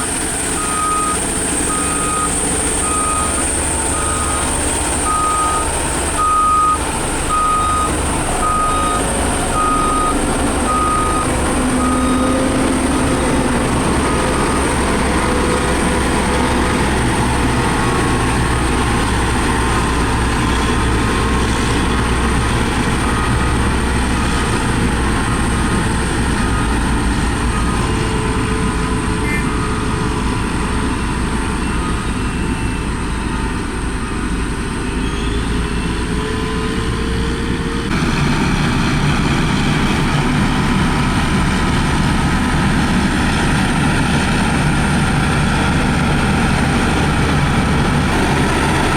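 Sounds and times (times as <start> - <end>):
heavy machinery engines droning: 0.0 - 48.9.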